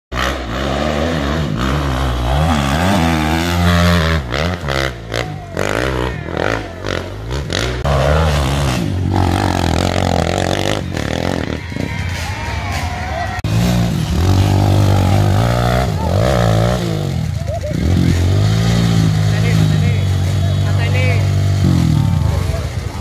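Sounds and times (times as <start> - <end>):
dirt bike engines revving: 0.1 - 23.0.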